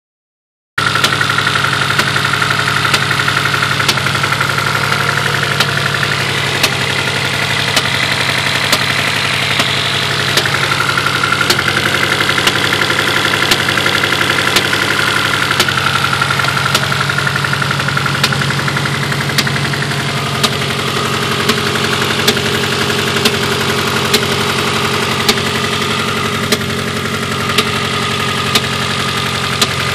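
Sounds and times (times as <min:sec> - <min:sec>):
engine idling: 0:00.8 - 0:29.9
sharp engine ticks or pops: 0:00.8 - 0:29.9.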